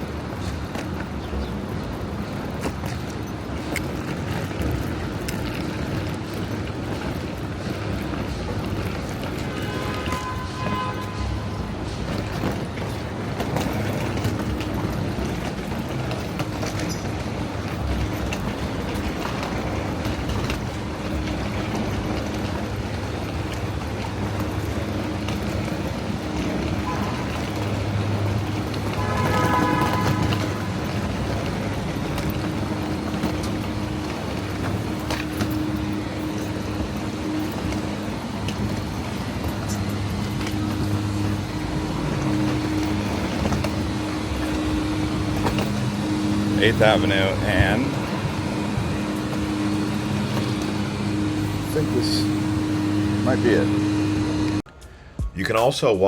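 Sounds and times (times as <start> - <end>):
city street traffic: 0.0 - 56.0
road noise: 0.0 - 56.0
vehicle engine hum: 0.0 - 56.0.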